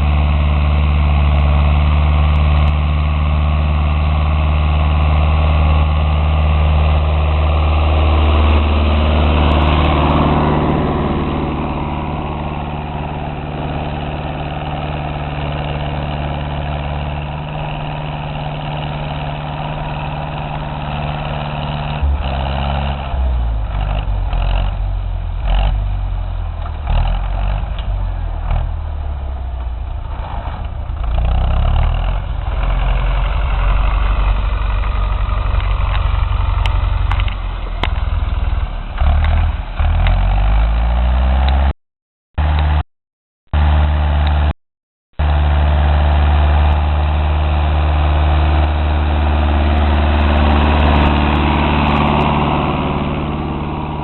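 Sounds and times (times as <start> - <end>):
tractor diesel engine running: 0.0 - 41.7, 42.4 - 42.8, 43.6 - 44.5, 45.2 - 54.0.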